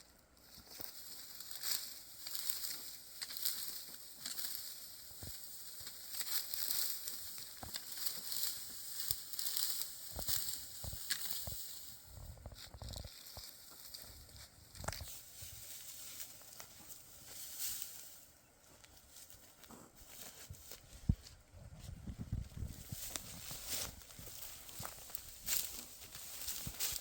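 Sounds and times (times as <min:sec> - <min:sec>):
dry wheat stalks rustling: 0:00.0 - 0:27.0.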